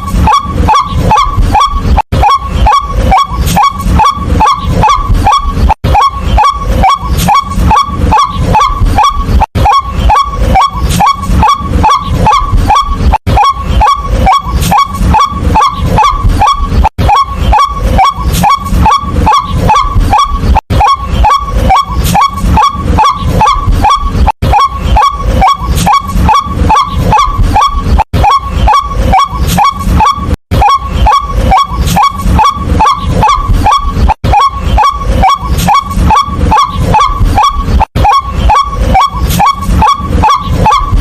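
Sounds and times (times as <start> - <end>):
waterhen calling: 0.0 - 41.0.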